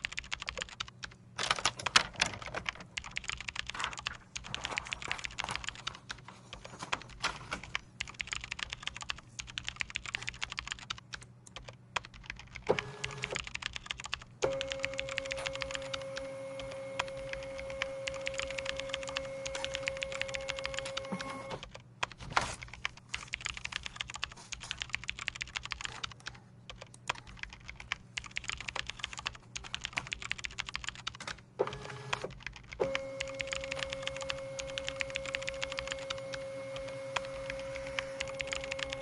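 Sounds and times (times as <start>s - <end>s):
keyboard typing: 0.0s - 39.0s.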